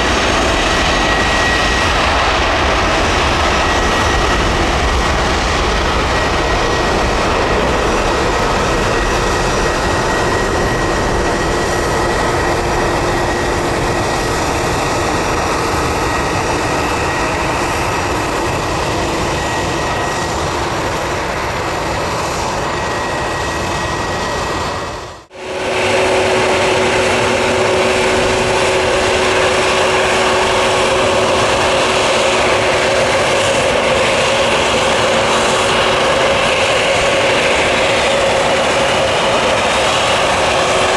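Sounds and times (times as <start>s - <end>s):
airliner jet engine noise: 0.0s - 40.9s.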